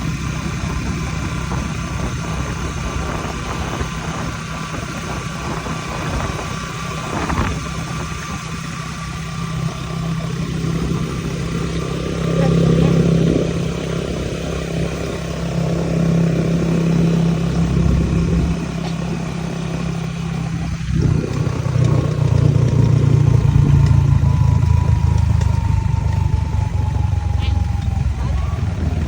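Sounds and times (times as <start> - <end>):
harvester engine running: 0.0 - 29.0.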